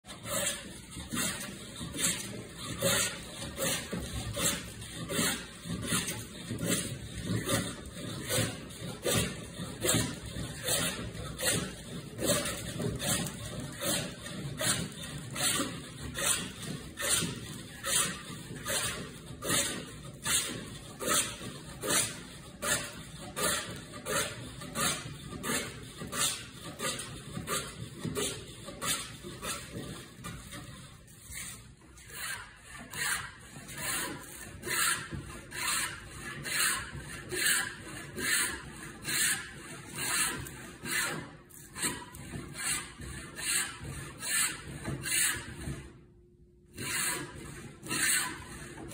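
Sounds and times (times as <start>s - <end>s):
hand plane shaving wood: 0.1s - 46.0s, 46.7s - 48.9s.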